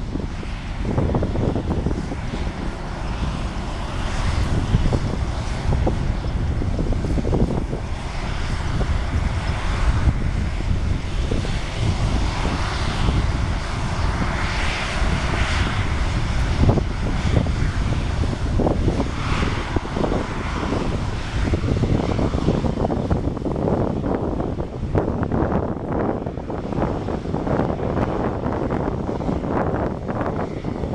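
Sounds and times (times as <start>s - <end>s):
airliner engines running: 0.0s - 30.9s
wind buffeting microphone: 0.0s - 30.9s.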